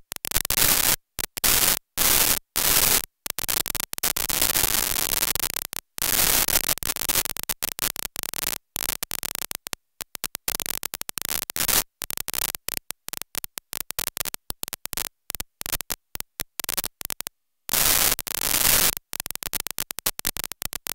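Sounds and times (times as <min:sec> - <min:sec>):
harsh static: 0:00.0 - 0:20.9.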